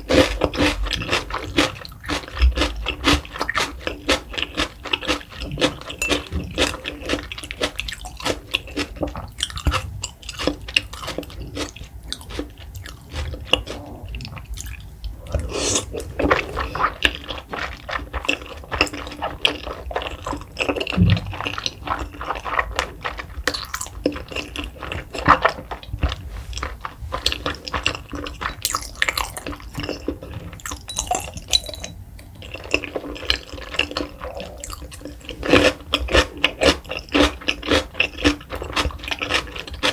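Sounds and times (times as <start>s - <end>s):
wet chewing of raw fish: 0.0s - 39.9s.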